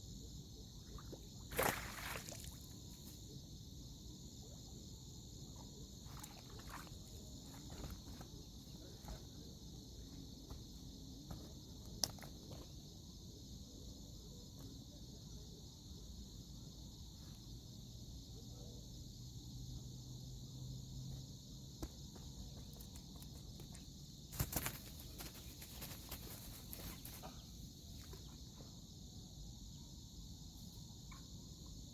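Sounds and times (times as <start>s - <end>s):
high-pitched insect chorus: 0.0s - 31.9s.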